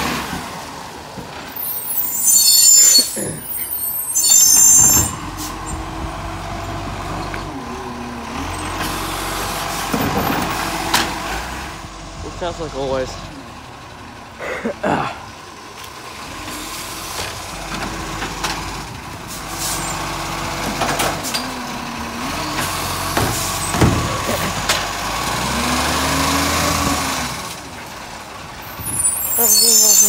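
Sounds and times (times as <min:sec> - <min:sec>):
garbage truck diesel engine: 0:00.0 - 0:30.0.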